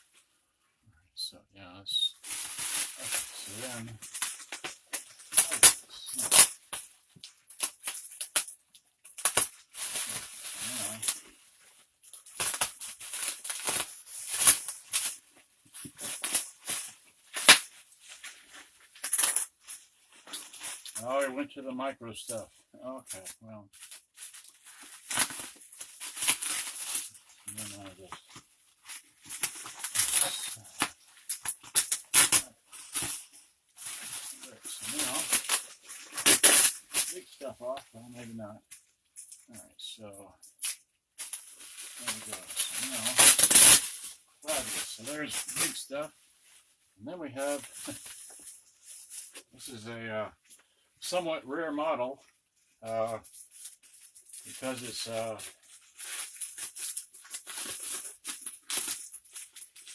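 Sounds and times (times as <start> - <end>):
packing material crinkling: 2.1 - 21.4, 22.2 - 39.7, 40.5 - 46.7, 47.3 - 49.8, 52.2 - 59.9.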